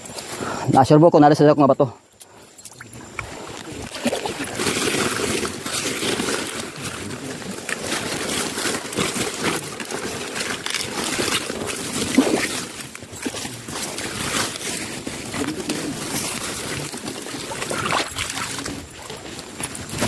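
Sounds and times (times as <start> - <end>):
rustling through leaves and undergrowth: 2.1 - 20.0.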